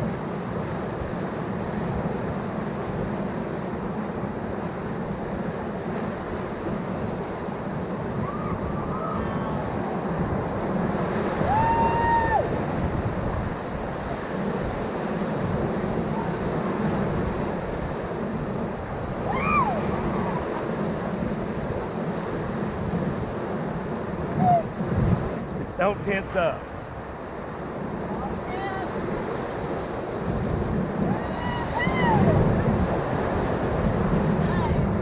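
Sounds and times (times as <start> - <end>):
wind buffeting microphone: 0.9 - 35.0
river rapids rushing: 5.6 - 35.0.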